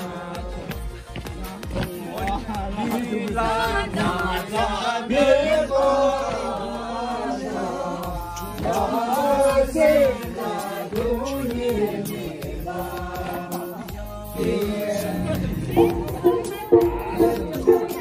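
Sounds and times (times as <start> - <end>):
group of voices singing: 0.0 - 18.0.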